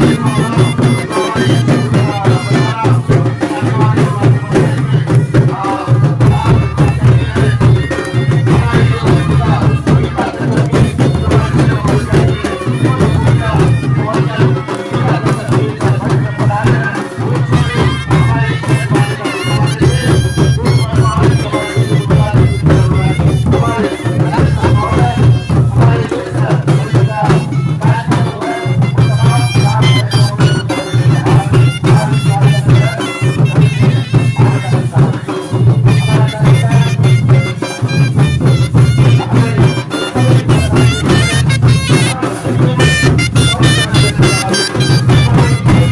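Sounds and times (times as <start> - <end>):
folk music: 0.0 - 45.9
steady drum beat: 0.0 - 45.9.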